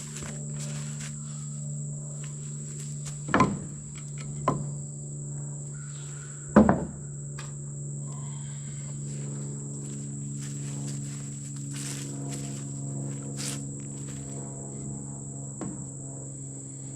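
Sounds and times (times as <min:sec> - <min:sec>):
high insect drone: 0:00.0 - 0:16.9.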